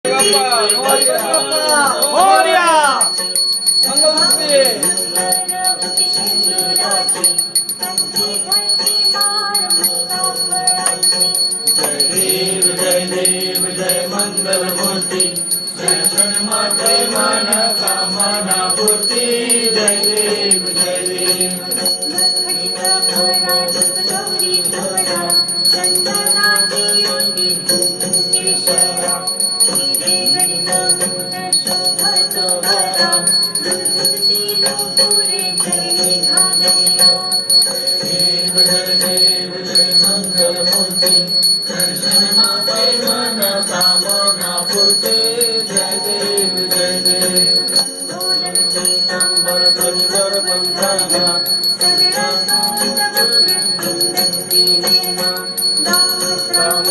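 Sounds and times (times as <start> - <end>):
bell ringing: 0.0 - 56.9.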